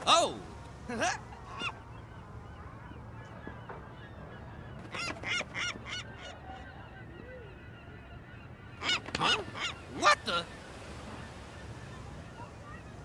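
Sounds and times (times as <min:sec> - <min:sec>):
seagull squawking: 0:00.0 - 0:13.0.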